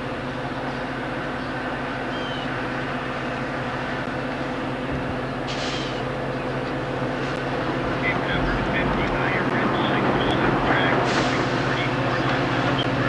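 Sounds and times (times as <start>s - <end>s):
distant train rumble and hiss: 0.0s - 13.0s
steady hum: 0.0s - 13.0s.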